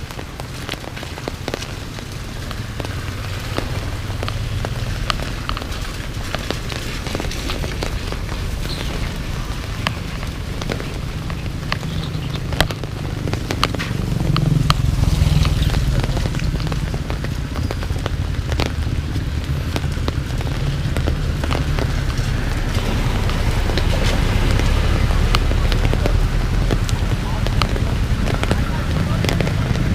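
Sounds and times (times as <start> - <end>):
low rumble: 0.0 - 29.9
rain drops ticking: 0.0 - 29.9.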